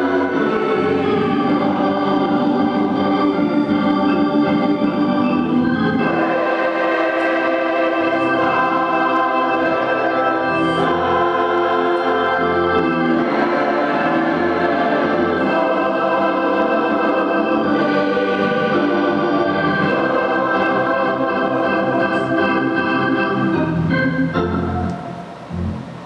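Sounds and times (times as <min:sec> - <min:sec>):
organ playing held chords: 0:00.0 - 0:26.0.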